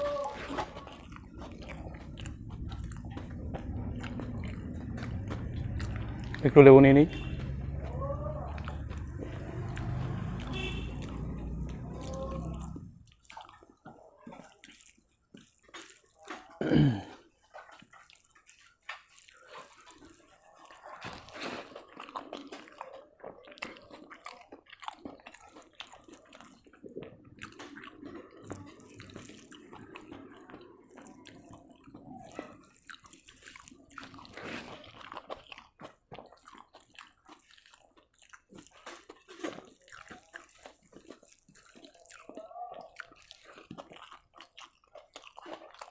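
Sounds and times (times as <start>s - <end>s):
hand squishing rice: 0.0s - 16.6s, 17.2s - 45.9s
chewing and smacking: 0.0s - 45.9s.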